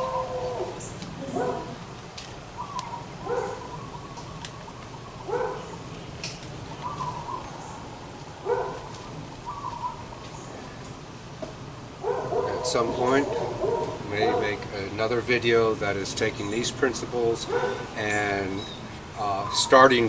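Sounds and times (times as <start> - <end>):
bird calling: 0.0 - 1.8, 2.4 - 11.0, 12.0 - 14.8, 16.3 - 20.0.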